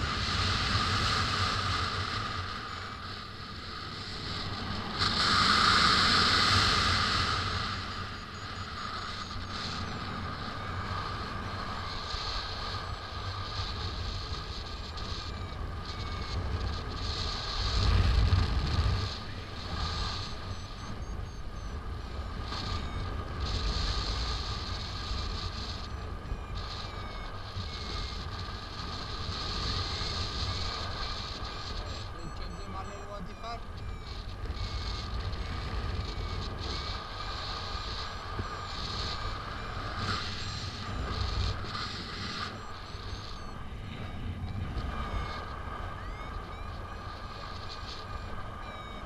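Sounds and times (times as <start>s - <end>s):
wind rushing over microphone: 0.0s - 49.0s
faint high chirps and beeps: 0.6s - 49.0s.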